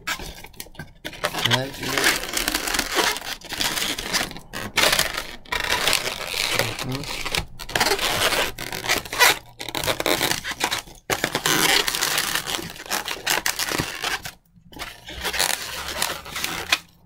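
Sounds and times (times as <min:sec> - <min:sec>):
balloons rubbing together: 0:00.0 - 0:17.0.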